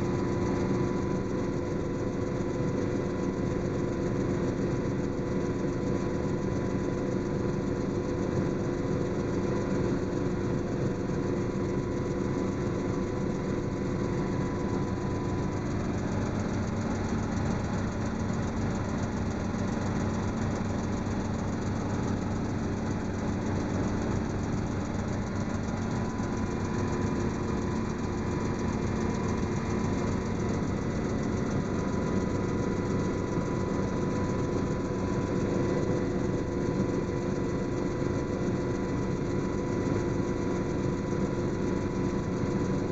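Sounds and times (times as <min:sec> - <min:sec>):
helicopter engine and rotor drone: 0:00.0 - 0:42.9.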